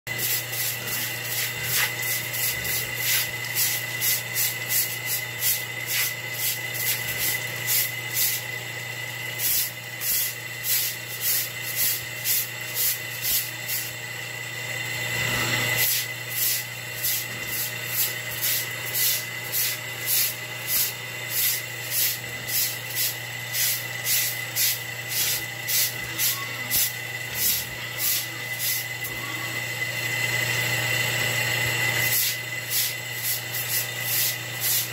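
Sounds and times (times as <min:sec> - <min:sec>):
broom scrubbing wet concrete: 0:00.1 - 0:08.4, 0:09.4 - 0:14.0, 0:15.8 - 0:29.1, 0:32.1 - 0:34.9
steady low hum: 0:00.1 - 0:34.9.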